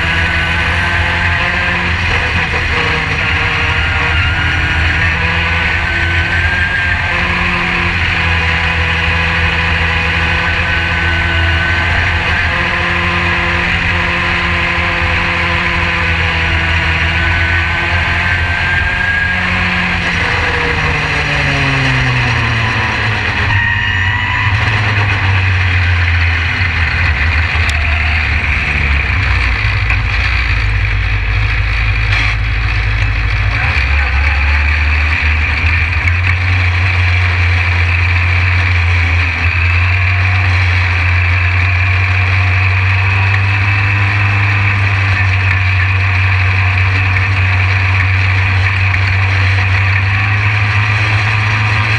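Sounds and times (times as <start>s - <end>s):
race car engine: 0.0s - 51.9s.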